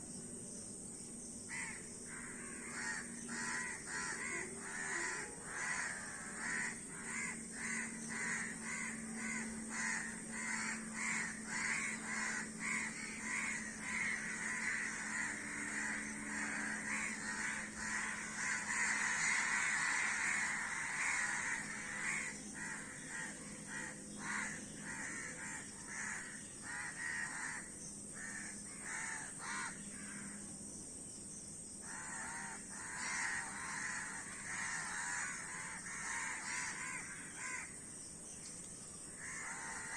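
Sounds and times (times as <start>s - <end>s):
crows cawing: 1.5s - 30.4s, 31.8s - 37.8s, 39.2s - 39.9s.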